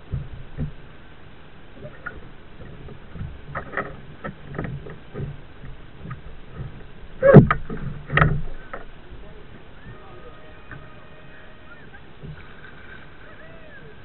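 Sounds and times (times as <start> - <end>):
paddle strokes splashing: 0.0 - 14.0.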